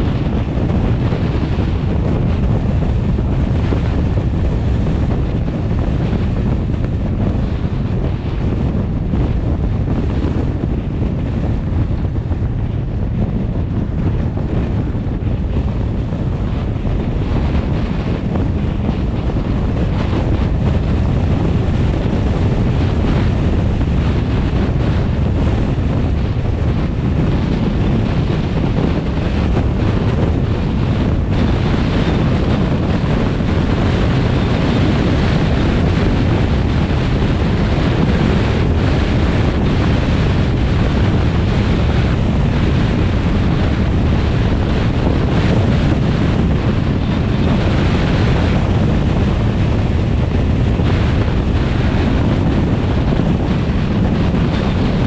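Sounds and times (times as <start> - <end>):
road noise: 0.0 - 55.0
wind rumbling on microphone: 0.0 - 55.0.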